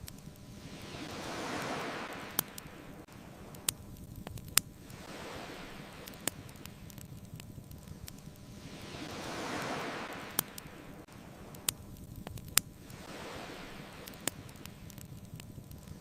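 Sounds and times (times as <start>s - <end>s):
ocean waves washing in: 0.0s - 16.0s
wood fire crackling: 0.0s - 16.0s.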